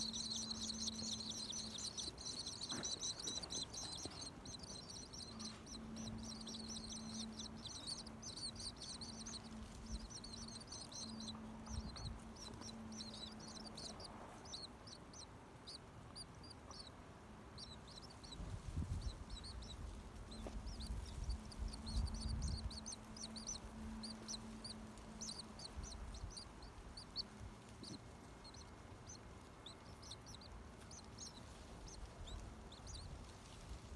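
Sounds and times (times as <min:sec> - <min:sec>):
nestling birds cheeping: 0:00.0 - 0:16.9, 0:17.6 - 0:33.1.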